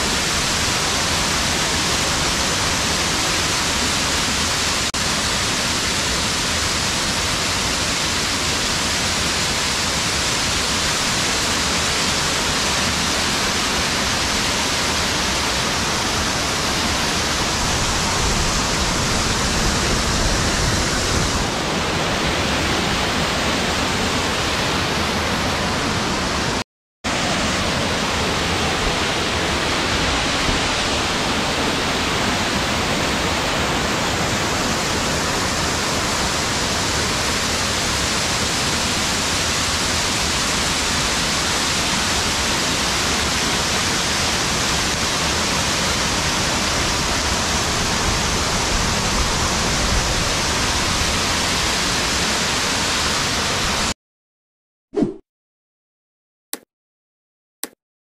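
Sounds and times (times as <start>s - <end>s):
waterfall rushing into pool: 0.0s - 54.0s.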